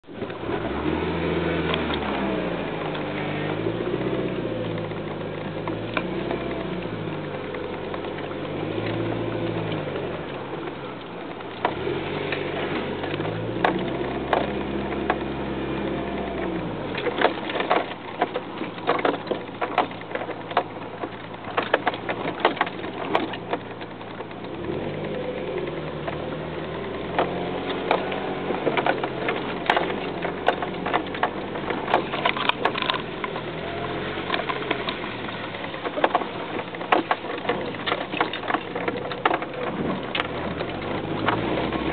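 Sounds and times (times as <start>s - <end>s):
truck engine: 0.0s - 41.9s
knocks and rattles: 3.8s - 41.9s.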